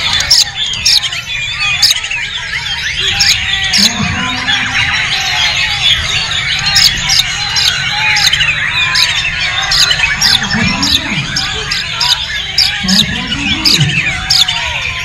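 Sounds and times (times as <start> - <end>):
chorus of songbirds: 0.0 - 15.0.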